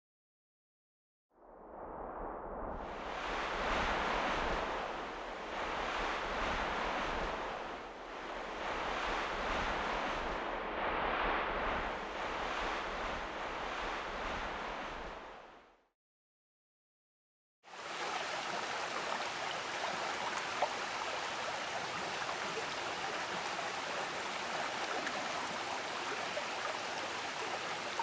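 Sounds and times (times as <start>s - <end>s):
waves washing in: 2.8s - 15.7s, 17.7s - 28.0s.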